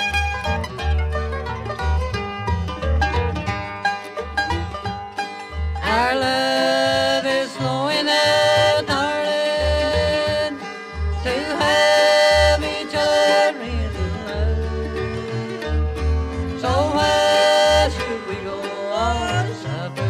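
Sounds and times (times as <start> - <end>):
banjo: 0.0 - 20.0
fiddle sliding long notes: 0.0 - 20.0
guitar backing: 0.0 - 20.0
upright bass pulse: 0.0 - 20.0.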